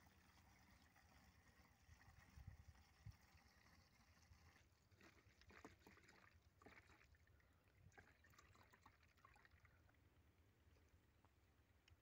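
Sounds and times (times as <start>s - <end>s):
small splashes: 0.0s - 10.0s
fuel trickling and gurgling: 0.0s - 10.3s.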